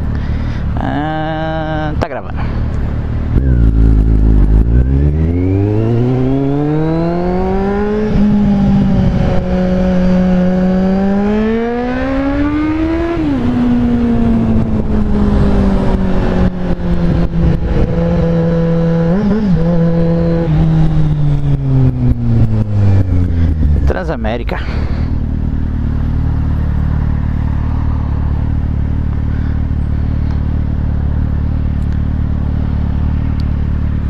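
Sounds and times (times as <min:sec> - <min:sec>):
motorcycle engine accelerating hard: 0:02.4 - 0:34.0.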